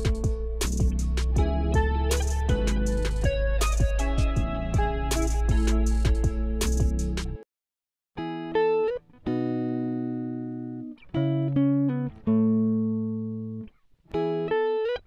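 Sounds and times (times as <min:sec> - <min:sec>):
guitar plucked notes: 0:00.0 - 0:07.4, 0:08.2 - 0:15.0.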